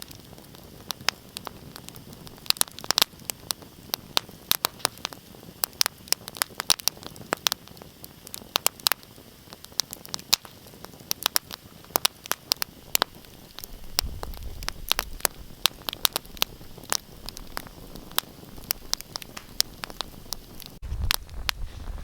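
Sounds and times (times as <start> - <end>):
low rumble of flames: 0.0 - 22.0
soft hiss of fire: 0.0 - 22.0
wood fire pops and snaps: 0.0 - 22.0.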